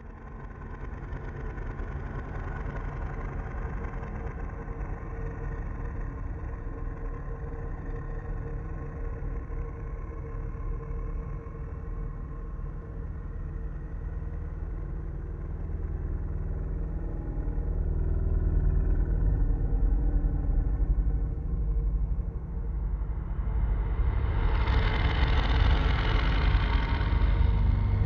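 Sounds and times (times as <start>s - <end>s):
deep low rumble drone: 0.0s - 28.0s.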